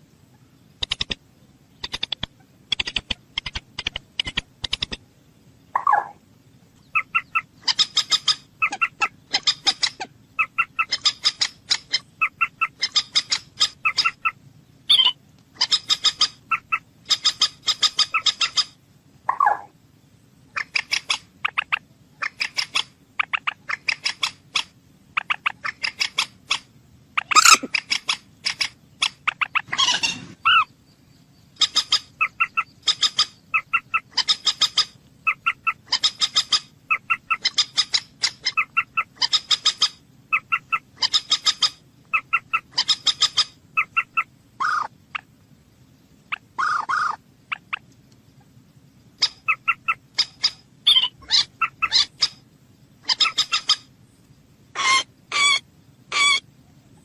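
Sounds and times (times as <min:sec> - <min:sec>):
harsh bird calls: 0:00.2 - 0:06.2, 0:06.8 - 0:45.3, 0:46.3 - 0:53.9, 0:54.7 - 0:57.0.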